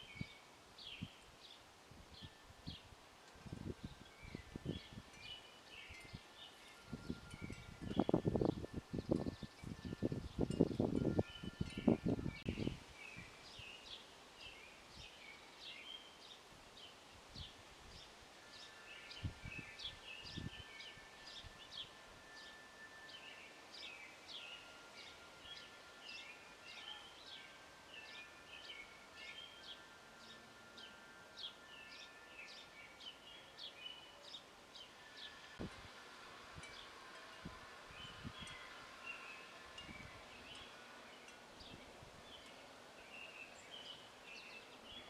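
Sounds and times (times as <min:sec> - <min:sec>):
songbirds chirping: 0:00.0 - 0:45.0
wind chime tones: 0:02.2 - 0:12.8, 0:18.4 - 0:45.0.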